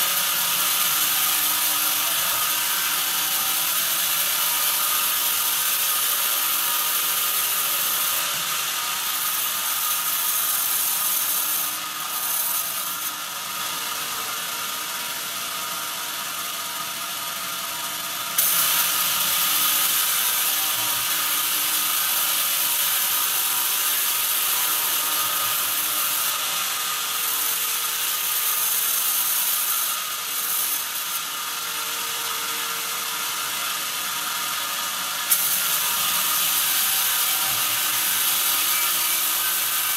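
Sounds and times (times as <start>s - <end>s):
saw blade cutting timber: 0.0s - 39.9s.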